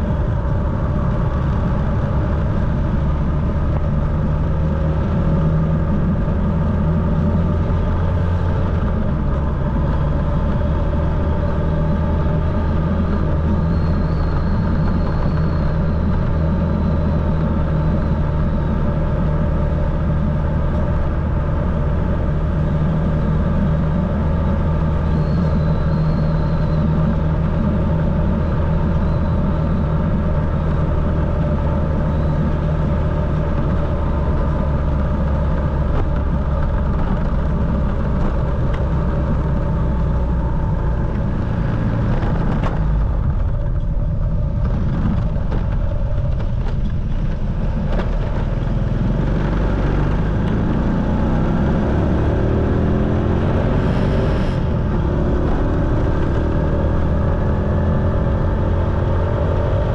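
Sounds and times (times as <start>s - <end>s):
motorcycle engine droning: 0.0s - 59.9s.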